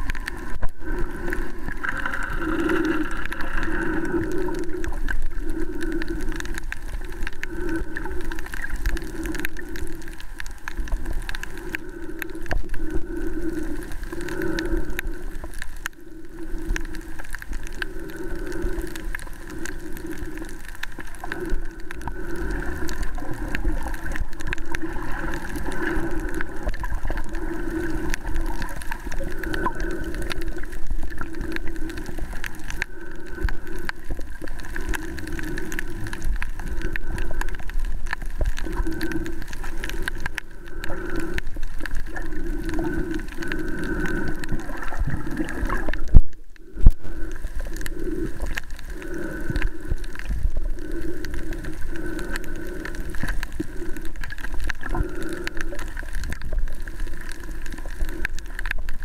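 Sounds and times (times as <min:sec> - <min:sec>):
muffled underwater rushing: 0:00.0 - 0:59.0.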